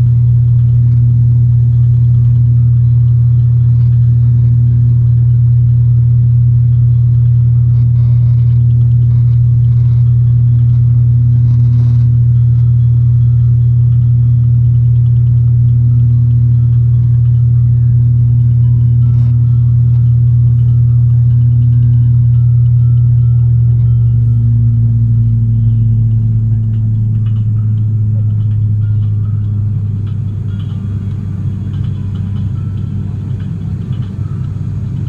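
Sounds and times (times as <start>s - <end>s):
turboprop engine drone in cabin: 0.0s - 35.0s.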